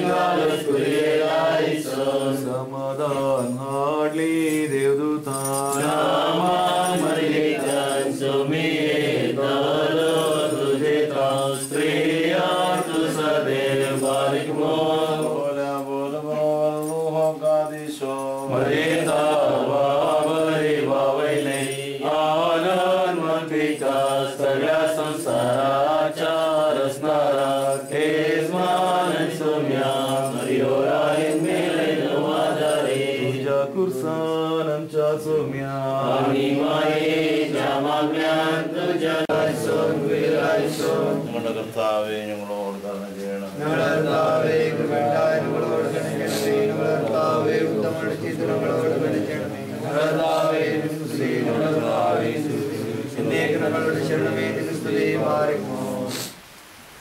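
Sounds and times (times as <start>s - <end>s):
voices chanting a hymn: 0.0s - 56.5s.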